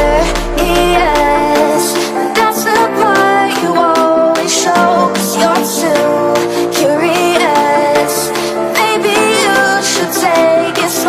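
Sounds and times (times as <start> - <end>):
electronic pop music: 0.0 - 11.0.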